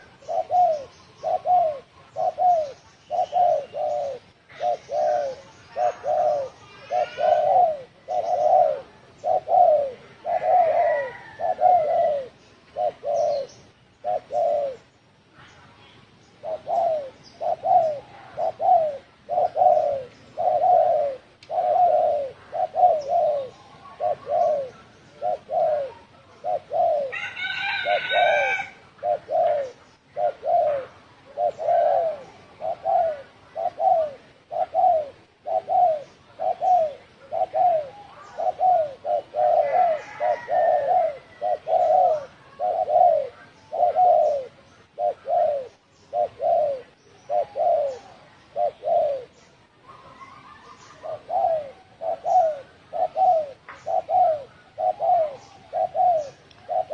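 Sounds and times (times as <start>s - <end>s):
dove cooing: 0.0s - 15.0s, 16.4s - 56.9s.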